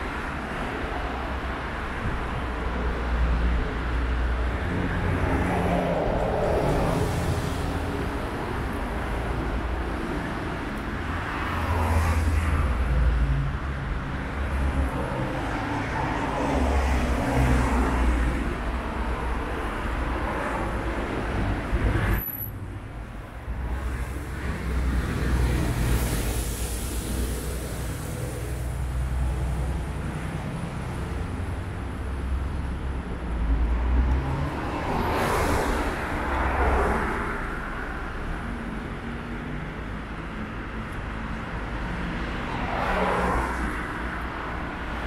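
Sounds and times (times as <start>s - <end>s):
cars passing: 0.0s - 45.0s.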